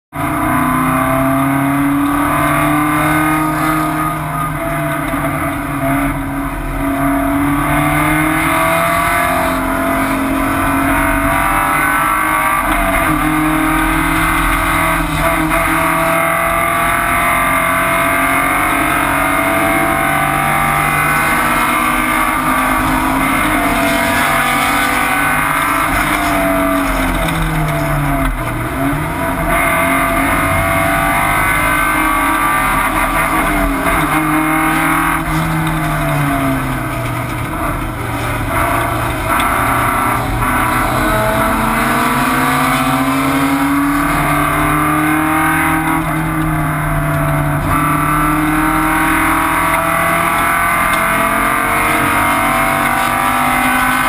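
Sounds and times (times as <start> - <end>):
race car engine revving: 0.2 - 54.0.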